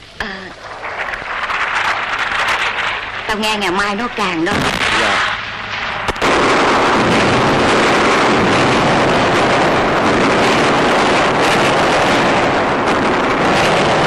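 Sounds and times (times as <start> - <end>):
jet aircraft roar overhead: 0.0 - 14.0.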